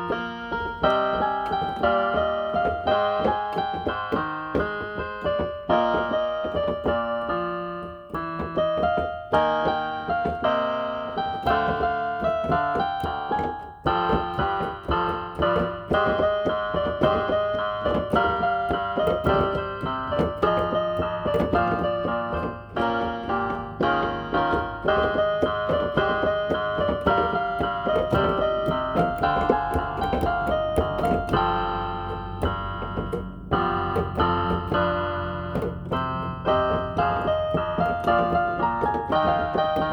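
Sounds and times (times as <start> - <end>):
electronic keyboard piano melody: 0.0 - 39.9.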